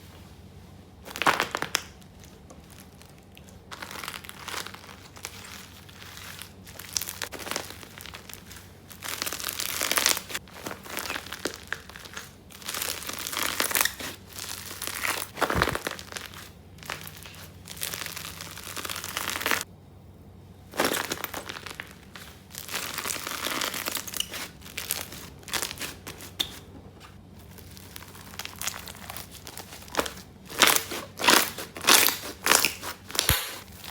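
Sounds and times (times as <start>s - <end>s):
slime squeezing and crackling: 1.1s - 19.7s, 20.8s - 26.5s, 27.4s - 33.9s.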